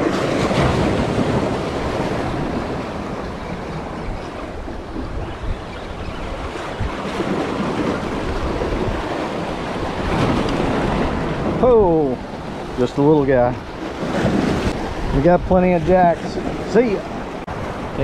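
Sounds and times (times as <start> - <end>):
waves splashing against rocks: 0.0 - 18.0
wind buffeting microphone: 0.0 - 18.0.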